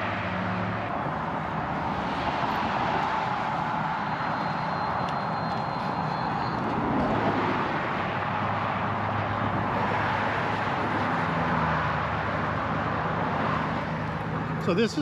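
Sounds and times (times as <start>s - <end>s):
road traffic and tyre noise: 0.0s - 15.0s.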